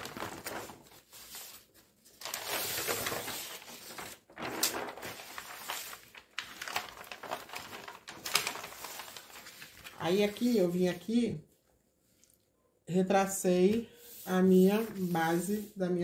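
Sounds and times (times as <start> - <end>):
paper sheets rustling and sliding: 0.0 - 11.0, 13.7 - 15.8.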